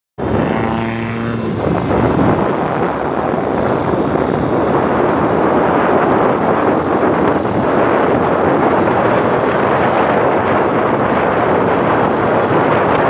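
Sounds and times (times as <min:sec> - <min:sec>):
vehicle road noise: 0:00.2 - 0:13.0
wind rushing over microphone: 0:00.2 - 0:13.0.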